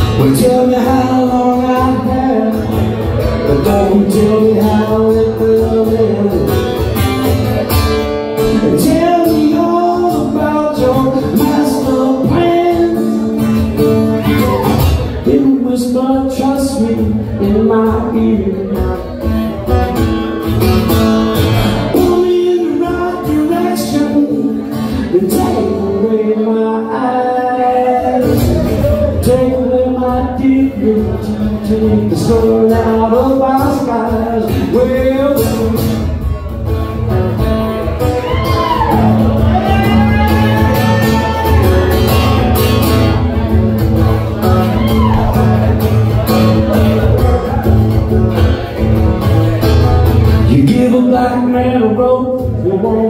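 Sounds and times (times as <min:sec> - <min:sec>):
man singing: 0:00.0 - 0:07.6, 0:08.2 - 0:53.0
acoustic guitar strumming: 0:00.0 - 0:53.0.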